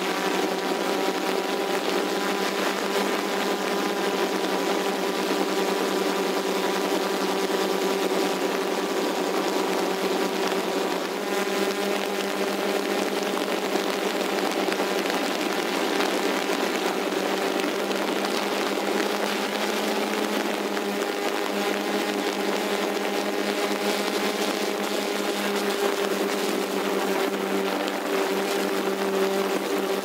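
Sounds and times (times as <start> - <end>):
drone propellers buzzing whine: 0.0 - 30.0.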